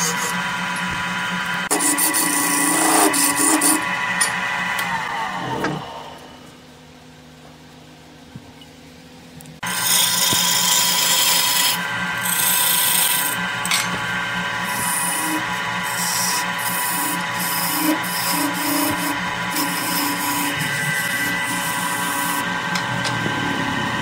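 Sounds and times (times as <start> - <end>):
chisel scraping spinning wood: 0.0 - 4.9, 9.6 - 24.0
faint lathe motor hum: 0.0 - 24.0.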